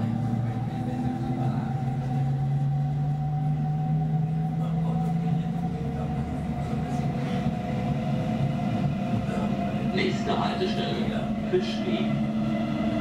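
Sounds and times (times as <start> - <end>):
train motor hum: 0.0 - 13.0
wheels rumbling on rail: 0.0 - 13.0.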